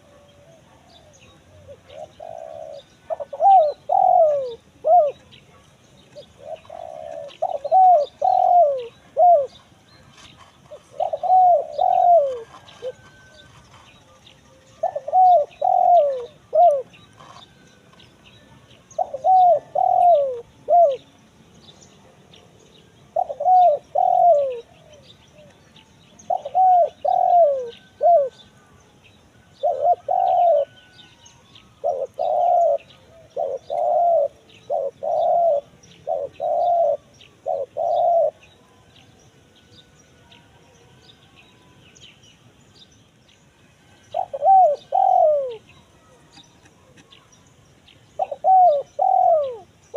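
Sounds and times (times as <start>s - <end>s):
dove cooing: 0.0s - 18.0s, 18.7s - 21.2s, 22.7s - 25.6s, 26.2s - 28.6s, 29.4s - 38.5s, 43.8s - 47.3s, 48.1s - 49.9s
small birds chirping faintly: 0.0s - 49.9s.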